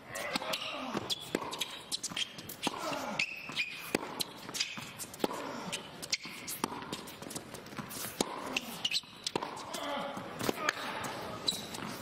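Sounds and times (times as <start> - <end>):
ball bouncing on court: 0.2 - 12.0
rackets striking tennis ball: 0.2 - 12.0.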